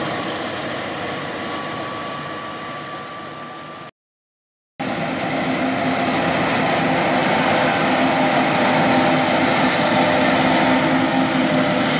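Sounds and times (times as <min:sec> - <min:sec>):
combine harvester running: 0:00.0 - 0:03.9, 0:04.8 - 0:11.9.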